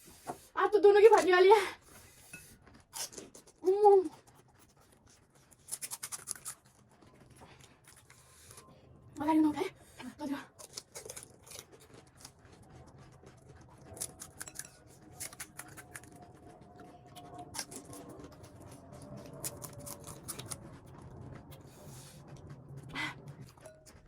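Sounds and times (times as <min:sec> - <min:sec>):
wet chewing: 0:01.1 - 0:24.0.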